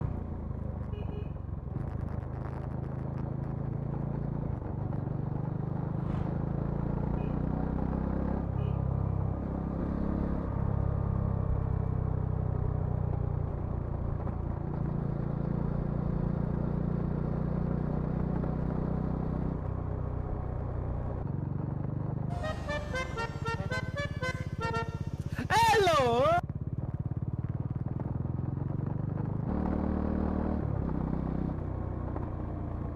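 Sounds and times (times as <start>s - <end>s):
motorcycle engine while riding: 0.0s - 32.9s.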